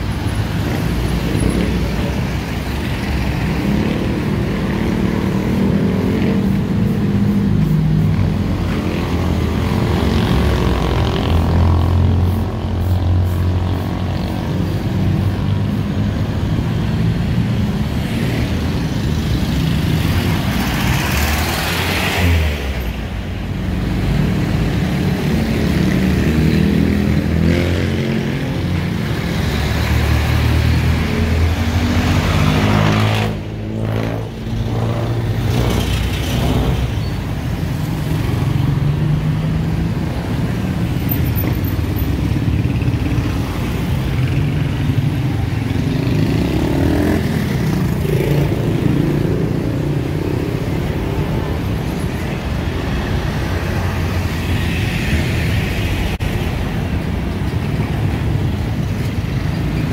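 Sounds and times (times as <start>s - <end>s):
diesel engines passing: 0.0s - 59.9s
motorcycles passing: 0.0s - 59.9s.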